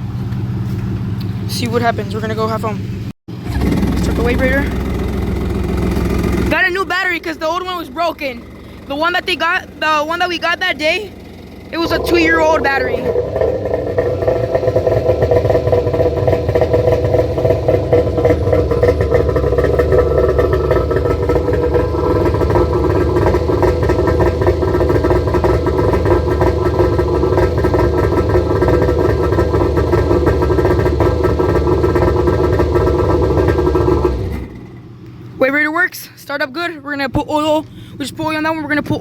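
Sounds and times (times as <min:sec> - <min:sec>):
jet ski engine running: 0:00.0 - 0:35.9, 0:36.5 - 0:39.0.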